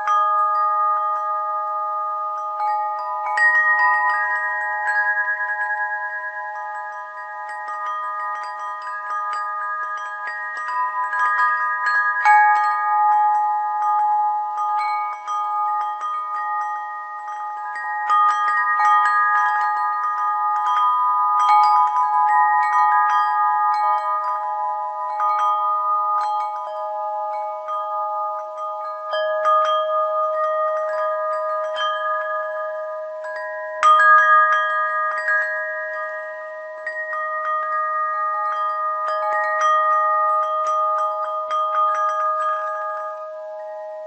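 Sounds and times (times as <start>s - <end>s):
metal chimes ringing: 0.0s - 44.0s.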